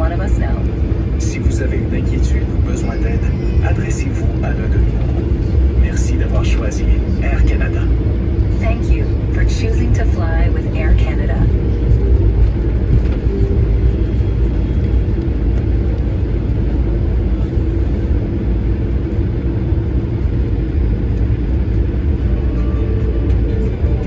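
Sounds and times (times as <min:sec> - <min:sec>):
airplane cabin engine hum: 0:00.0 - 0:24.0.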